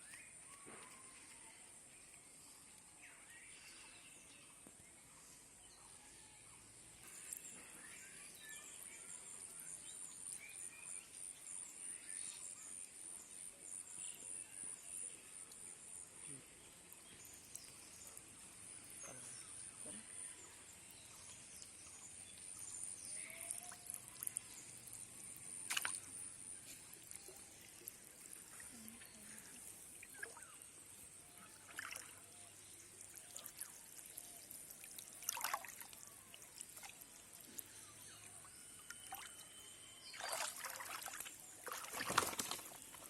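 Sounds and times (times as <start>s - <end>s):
water splashing and trickling: 7.0s - 43.0s.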